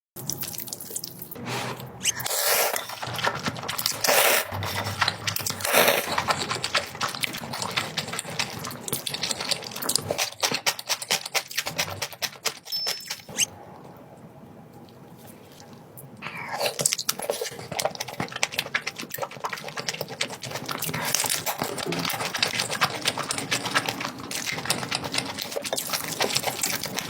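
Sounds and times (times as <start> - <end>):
person chewing: 0.2 - 13.5, 15.0 - 27.0.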